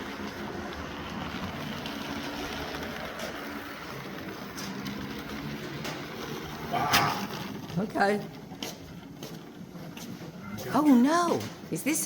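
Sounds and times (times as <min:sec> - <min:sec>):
model train motor hum: 0:00.0 - 0:11.1
wheels clicking over track: 0:00.0 - 0:12.0.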